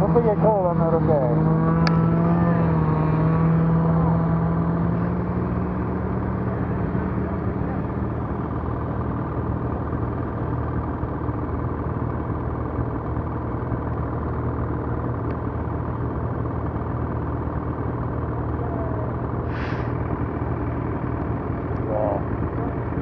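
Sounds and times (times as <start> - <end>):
snowmobile engine running steadily: 0.0 - 23.0.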